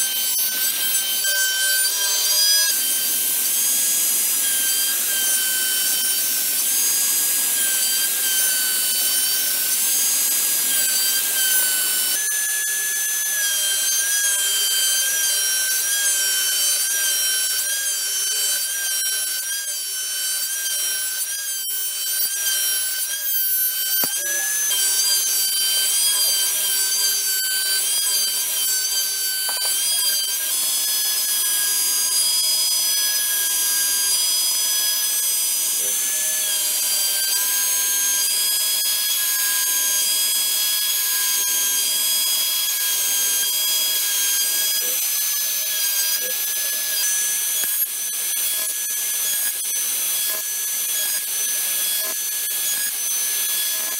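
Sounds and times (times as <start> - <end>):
hiss of bit cutting wood: 0.0 - 53.9
router spindle whining: 0.0 - 53.9.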